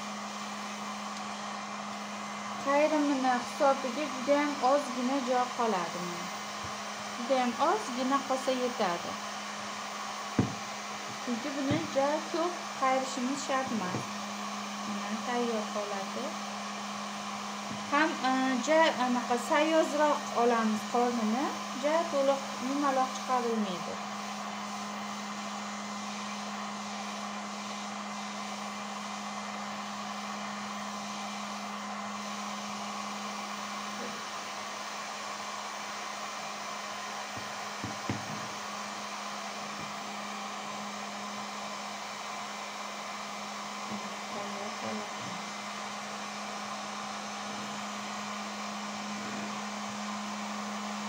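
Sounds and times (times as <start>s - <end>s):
heat gun blowing air: 0.0s - 51.0s.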